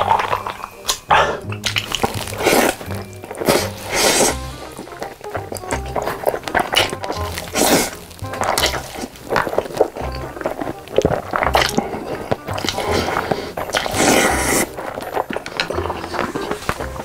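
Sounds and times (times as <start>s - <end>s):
close-miked biting and chewing: 0.0s - 17.0s
background music with bass line: 1.1s - 17.0s.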